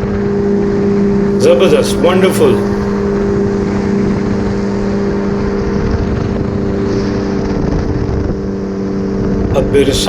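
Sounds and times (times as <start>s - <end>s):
paratrike engine and propeller drone: 0.0s - 10.0s.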